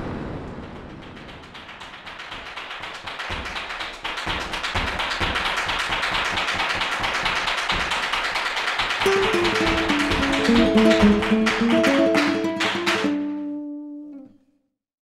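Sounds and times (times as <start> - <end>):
fast dense tapping or crackling: 0.5 - 13.2.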